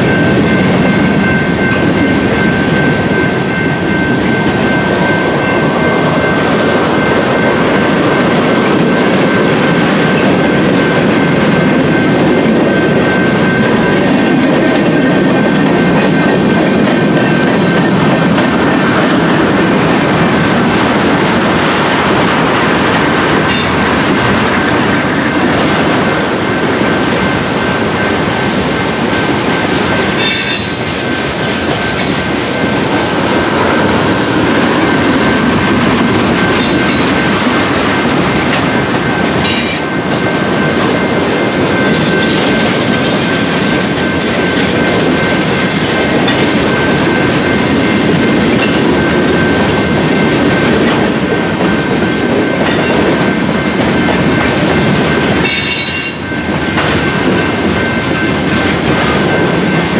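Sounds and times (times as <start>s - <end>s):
train wheels clacking over rails: 0.0s - 59.9s.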